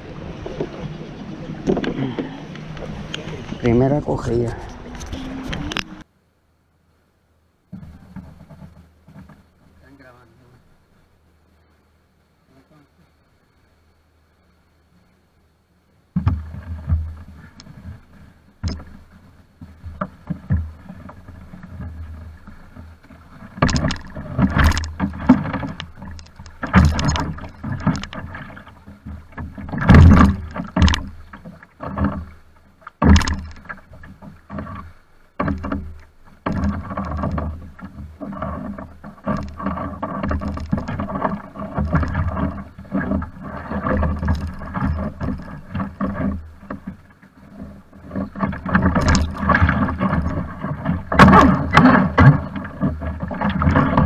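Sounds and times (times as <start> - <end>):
water rushing around boat hull: 0.0 - 54.0.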